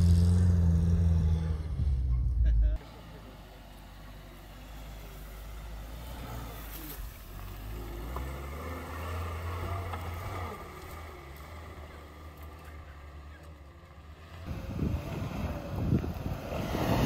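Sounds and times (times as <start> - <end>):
car engine climbing: 0.0 - 17.0.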